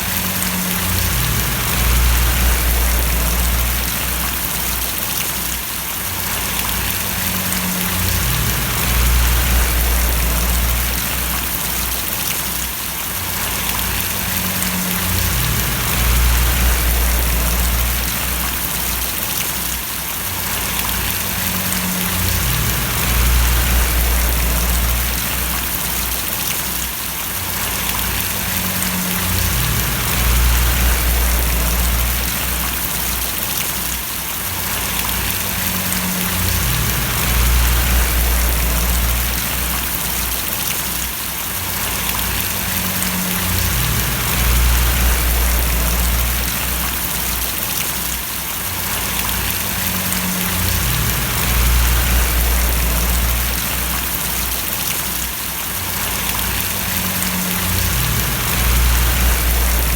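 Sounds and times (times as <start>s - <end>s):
low rumble: 0.0s - 4.8s, 6.5s - 12.2s, 13.4s - 19.1s, 20.6s - 26.4s, 27.7s - 33.4s, 34.9s - 40.6s, 41.9s - 47.6s, 49.1s - 54.8s, 56.2s - 59.9s
rain splashing: 0.0s - 59.9s.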